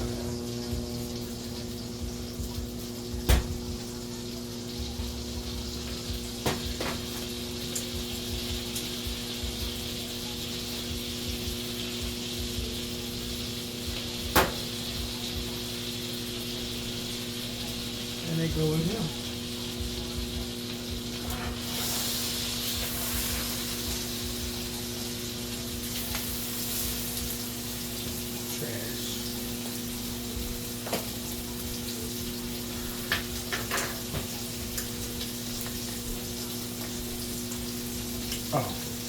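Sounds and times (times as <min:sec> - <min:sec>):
steaks sizzling in a pan: 0:00.0 - 0:39.0.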